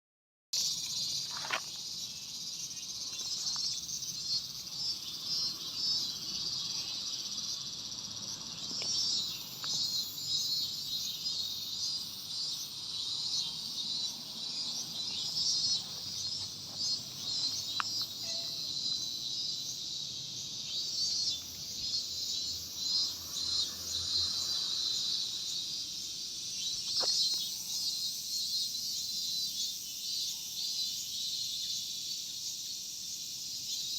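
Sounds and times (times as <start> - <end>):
cicadas buzzing: 0.6 - 33.9.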